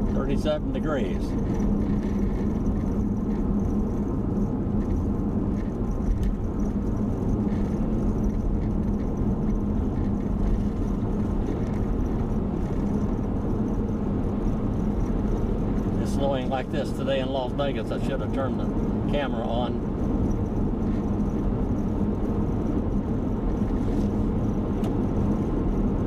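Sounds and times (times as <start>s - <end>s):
road and engine noise inside car: 0.0s - 26.0s.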